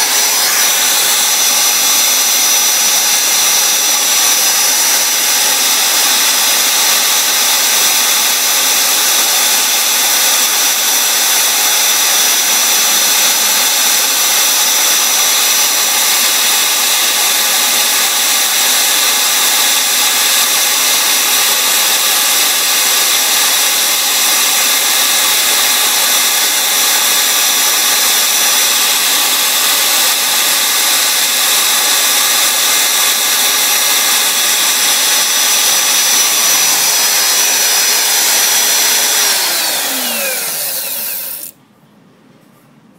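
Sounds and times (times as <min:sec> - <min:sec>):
electric drill whining: 0:00.0 - 0:41.6.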